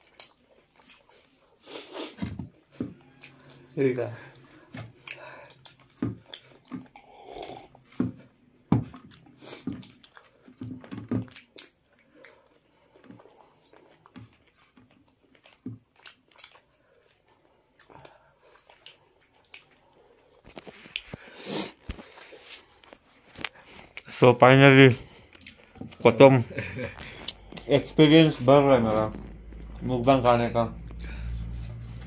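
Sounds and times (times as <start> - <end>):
chewing and mouth smacks: 0.0 - 24.2, 24.8 - 26.1, 26.7 - 27.8.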